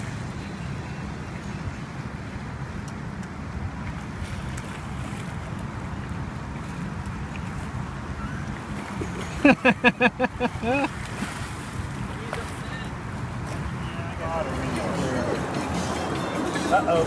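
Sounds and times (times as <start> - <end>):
water moving around boat: 0.0 - 17.0.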